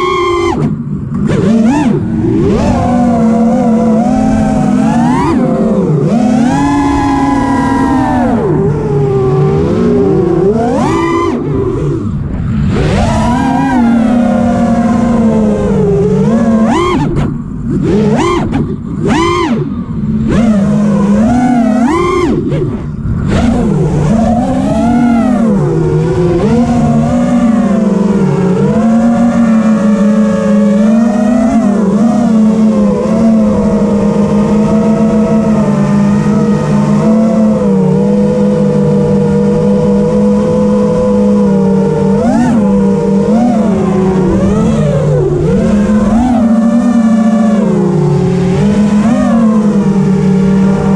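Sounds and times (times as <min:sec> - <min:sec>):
quadcopter motors whining: 0:00.0 - 0:50.9.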